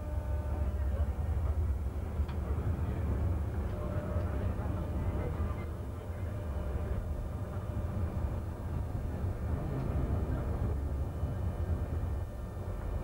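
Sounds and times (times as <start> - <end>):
tram running noise: 0.0 - 13.0.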